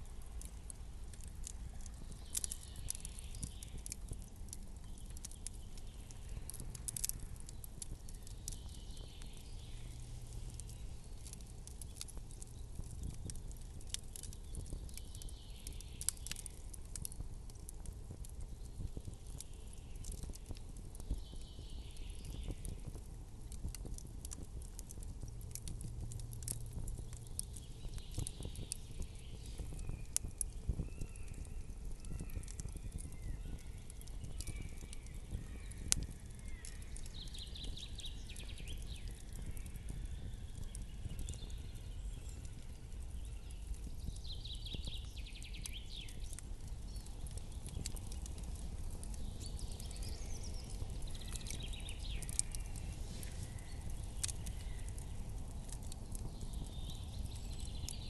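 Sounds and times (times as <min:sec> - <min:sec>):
campfire crackling: 0:00.0 - 0:58.0
fire pops and snaps: 0:00.0 - 0:58.0.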